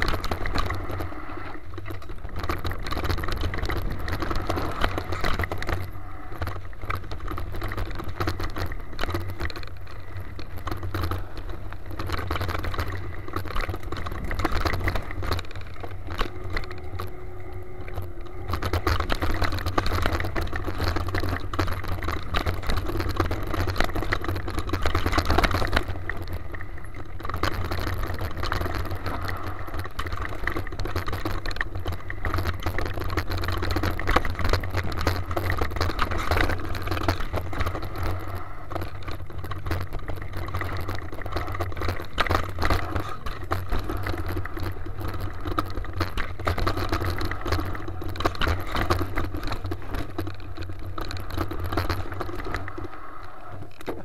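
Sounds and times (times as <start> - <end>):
bike clattering and rattling: 0.0 - 54.0
tyre noise: 0.0 - 54.0.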